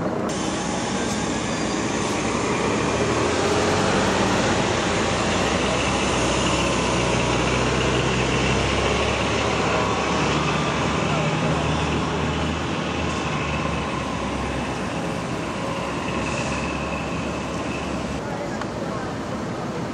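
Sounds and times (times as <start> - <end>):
vehicles driving slowly past: 0.0 - 19.9.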